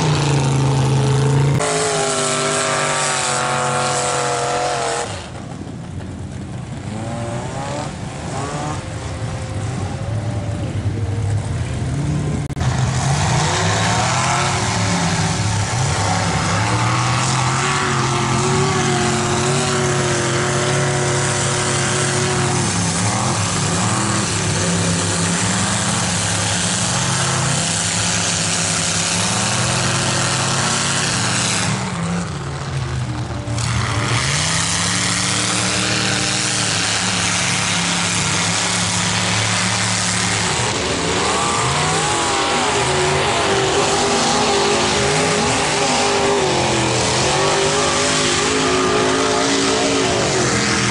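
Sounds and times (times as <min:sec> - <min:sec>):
truck engine revving: 0:00.0 - 0:50.9.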